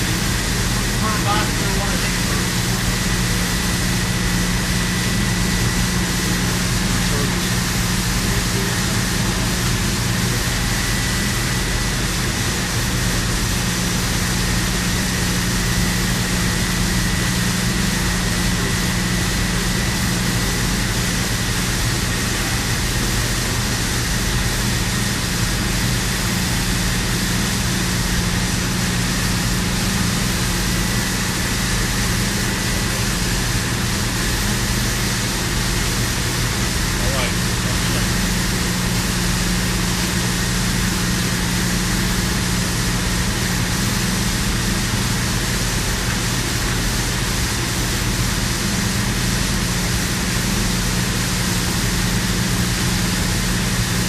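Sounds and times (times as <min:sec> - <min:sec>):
industrial machinery drone: 0:00.0 - 0:54.0.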